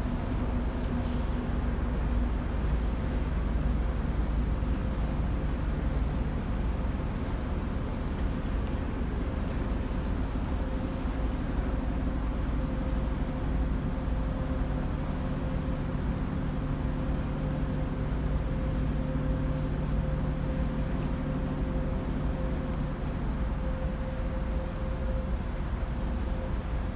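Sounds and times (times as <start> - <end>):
ship machinery drone: 0.0 - 26.9.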